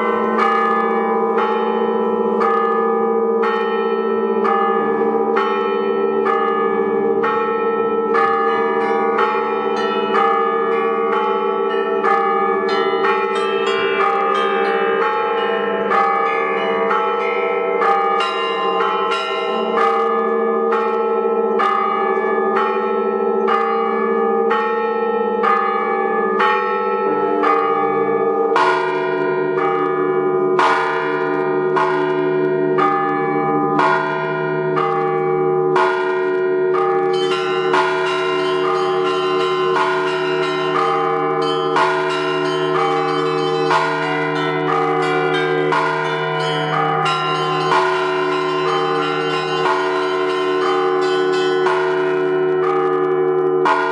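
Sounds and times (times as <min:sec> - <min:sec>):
small bells struck rhythmically: 0:00.0 - 0:30.0, 0:30.6 - 0:53.9
deep bell: 0:00.0 - 0:53.9
hum of large bells: 0:00.0 - 0:53.9.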